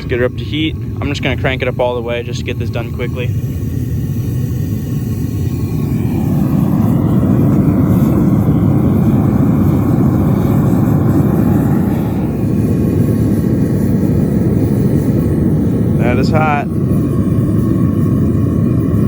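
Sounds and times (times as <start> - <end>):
gas burner roaring: 0.0 - 19.0.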